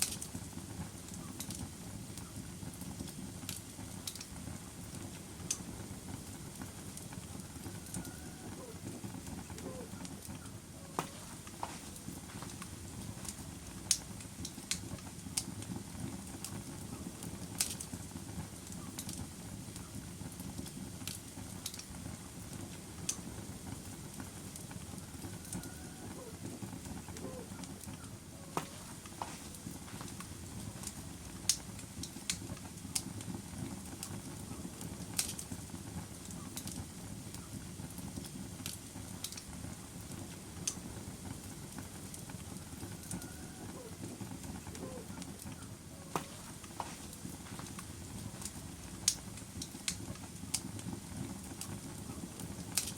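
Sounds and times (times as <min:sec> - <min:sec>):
log fire crackling and popping: 0:00.0 - 0:52.9.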